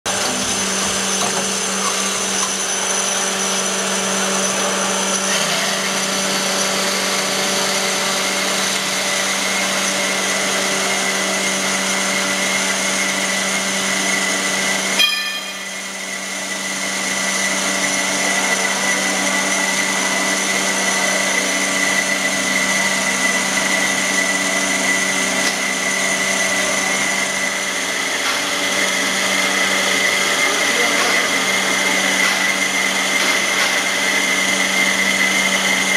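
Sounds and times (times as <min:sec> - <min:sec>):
band saw cutting metal: 0:00.0 - 0:35.9.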